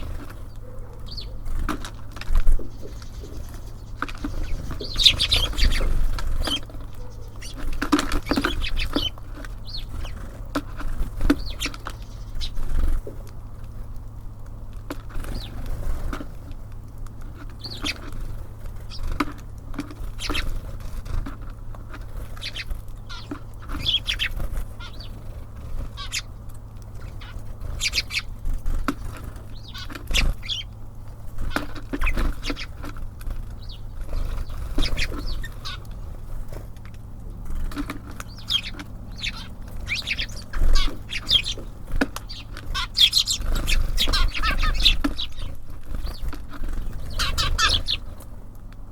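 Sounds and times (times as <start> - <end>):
wing flutters: 0.0 - 14.0, 14.8 - 48.6
small birds chirping: 0.0 - 48.9
steady low hum: 0.0 - 48.9.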